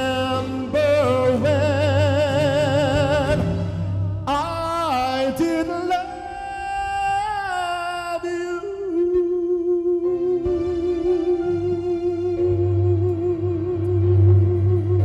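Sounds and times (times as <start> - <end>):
man singing a ballad: 0.0 - 15.0.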